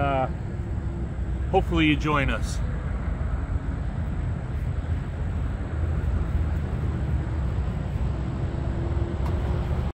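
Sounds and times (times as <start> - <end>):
road traffic: 0.0 - 9.9
wind: 0.0 - 9.9.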